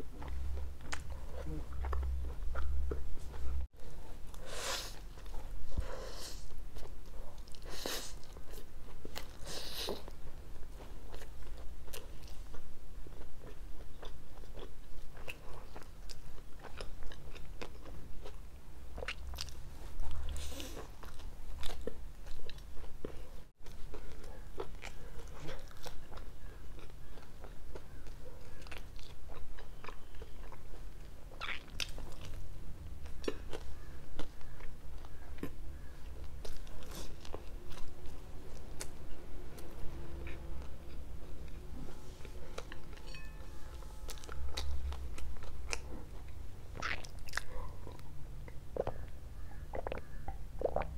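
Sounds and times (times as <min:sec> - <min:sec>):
chewing pizza: 0:00.0 - 0:50.9.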